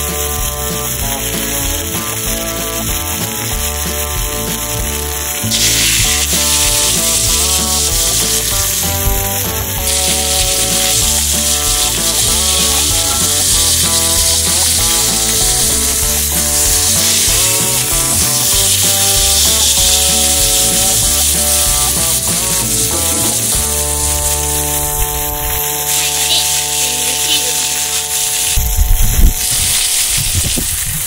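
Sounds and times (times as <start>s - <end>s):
background music: 0.0s - 30.0s
meat sizzling in a skillet: 0.0s - 31.0s.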